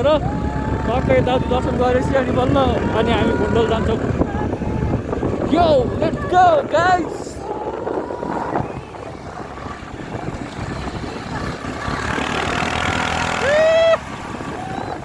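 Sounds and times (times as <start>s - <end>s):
motorcycle engine running: 0.0s - 6.7s, 7.3s - 15.0s
wind on microphone: 0.0s - 15.0s.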